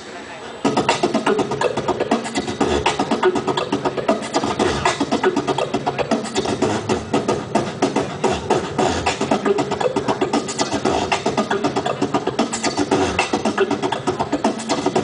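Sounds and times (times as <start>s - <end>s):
amplified beatboxing: 0.6s - 15.0s.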